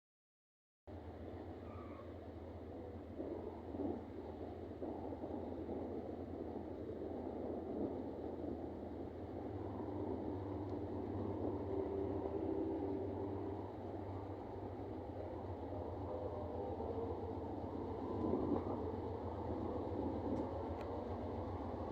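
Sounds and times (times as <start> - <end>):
faint steady hum: 0.9 - 21.9
freight train rumble: 0.9 - 21.9.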